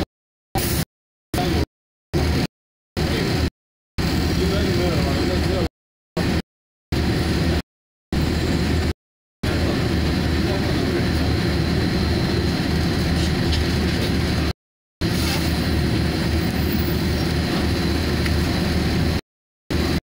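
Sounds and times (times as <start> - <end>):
vehicle engine and road rumble: 1.4 - 7.6, 8.2 - 20.0.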